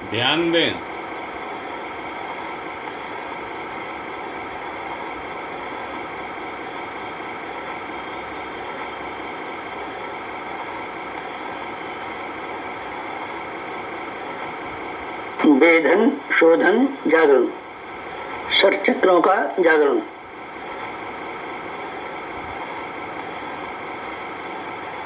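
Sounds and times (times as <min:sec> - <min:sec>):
background hum and hiss: 0:00.0 - 0:25.0
faint constant tones: 0:00.0 - 0:25.0.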